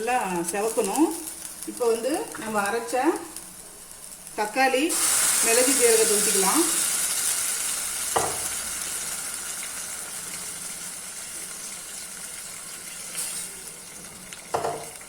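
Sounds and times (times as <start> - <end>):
hot oil sizzling in pan: 0.0 - 15.0.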